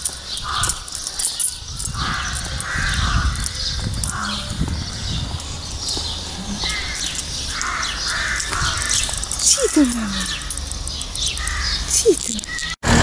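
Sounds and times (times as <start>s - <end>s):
harsh bird calls: 0.0s - 12.8s
high bird chirps: 0.0s - 12.8s.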